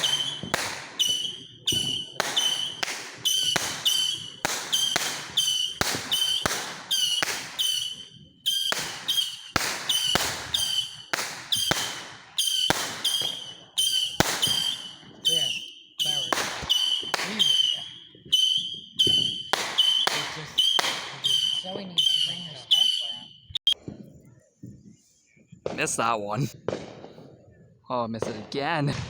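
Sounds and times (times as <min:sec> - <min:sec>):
firework bangs echoing: 0:00.0 - 0:24.0, 0:25.6 - 0:27.3, 0:28.2 - 0:29.0.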